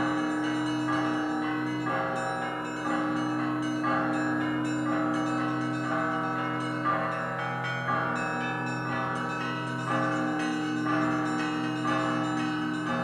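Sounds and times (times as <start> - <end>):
large bells humming: 0.0 - 13.0
small bells struck in clusters: 0.0 - 13.0.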